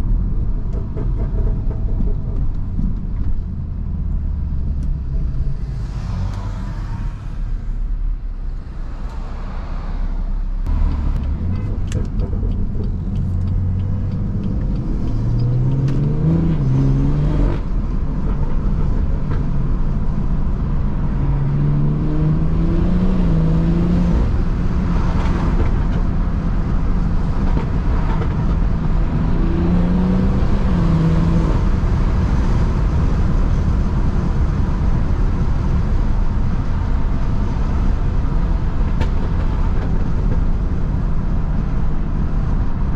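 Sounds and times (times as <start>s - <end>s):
car engine and exhaust accelerating: 0.0s - 42.9s.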